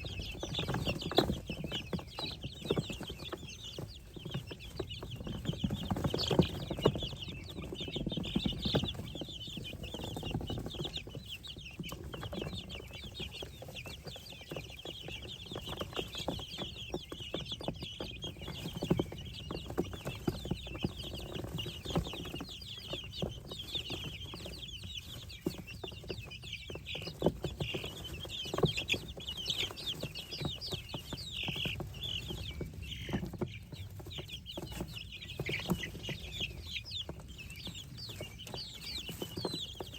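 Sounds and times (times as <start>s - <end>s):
baby birds peeping: 0.0s - 39.9s.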